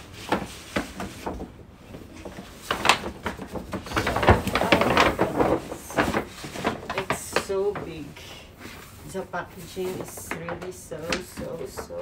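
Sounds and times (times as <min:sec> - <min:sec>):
paper bag rustling and crinkling: 0:00.0 - 0:12.0.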